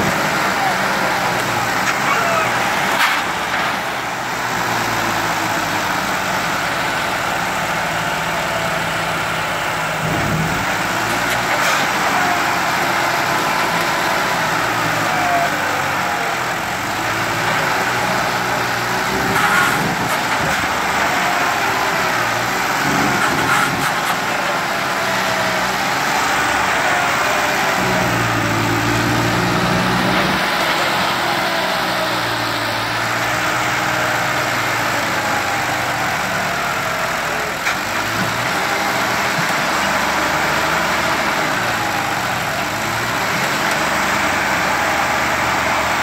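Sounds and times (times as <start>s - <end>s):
tractor diesel engines under load: 0.0s - 46.0s.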